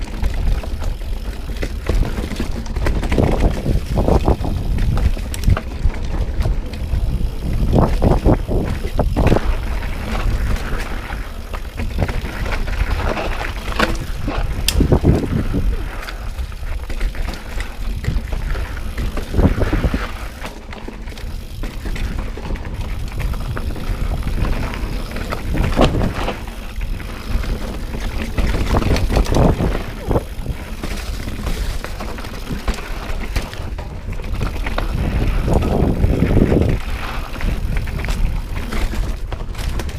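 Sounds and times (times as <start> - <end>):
bike knocks and rattles: 0.0 - 39.9
bike tyres rolling on dirt: 0.0 - 39.9
wind rumble on microphone: 0.0 - 39.9.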